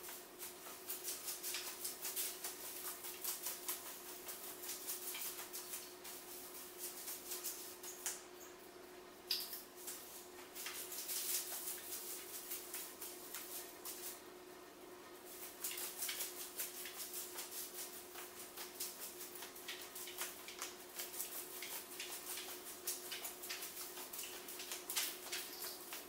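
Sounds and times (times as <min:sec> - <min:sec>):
videotape rustling and crackling: 0:00.0 - 0:08.4, 0:09.3 - 0:14.3, 0:15.0 - 0:26.0
faint steady hum: 0:00.0 - 0:26.0.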